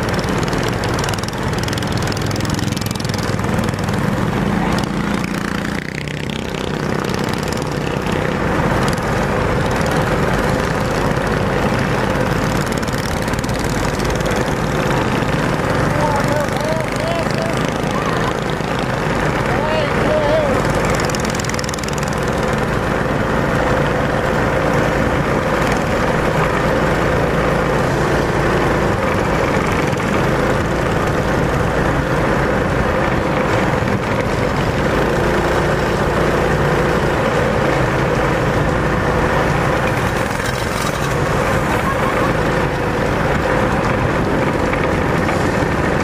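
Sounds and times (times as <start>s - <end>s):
road and wind noise: 0.0s - 46.0s
small engine droning: 0.0s - 46.0s.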